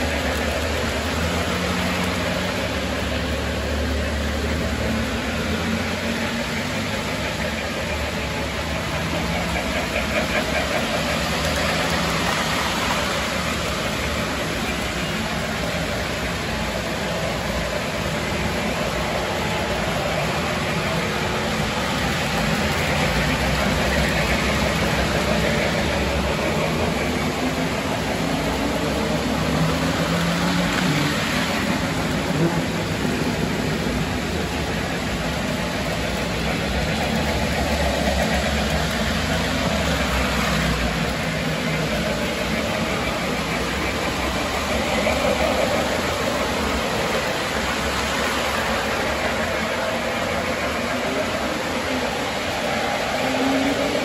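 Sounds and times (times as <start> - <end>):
model train motor hum: 0.0 - 54.0
wheels rumbling on rail: 0.0 - 54.0.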